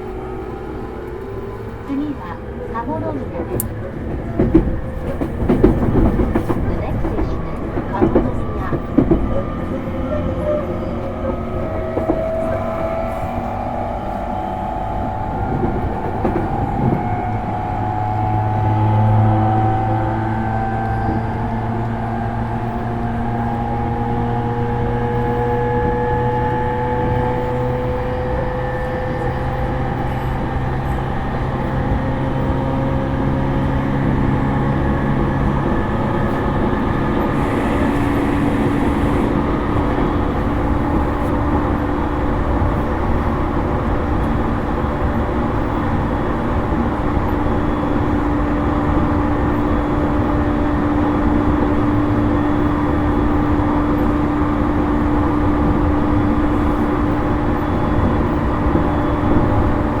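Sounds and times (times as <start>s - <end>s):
traction motor hum: 0.0s - 60.0s
train rail and wheel rumble: 0.0s - 60.0s.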